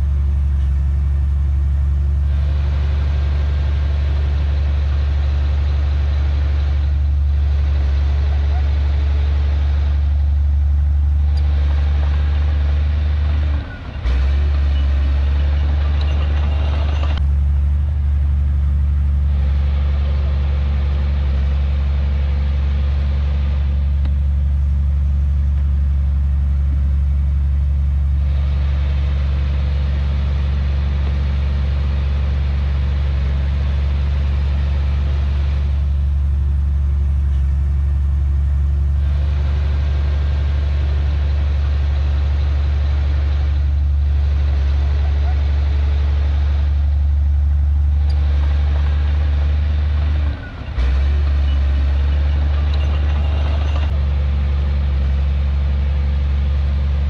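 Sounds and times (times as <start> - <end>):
diesel machine engine humming: 0.0 - 57.0
mechanical working noise: 0.0 - 57.0.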